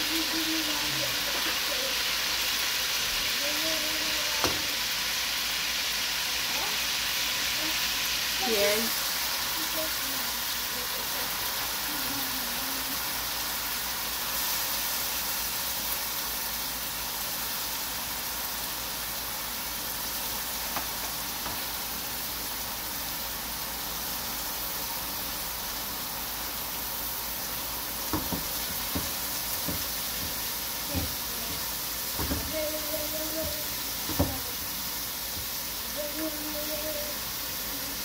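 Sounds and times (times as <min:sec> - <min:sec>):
onions sizzling in hot oil: 0:00.0 - 0:38.0.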